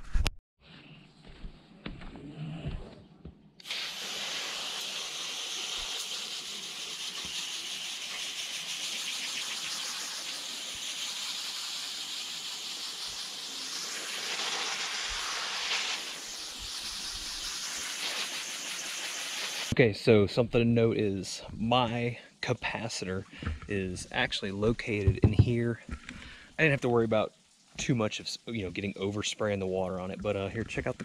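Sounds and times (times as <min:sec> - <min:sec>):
hose spraying water: 0:03.6 - 0:19.8, 0:21.8 - 0:30.9.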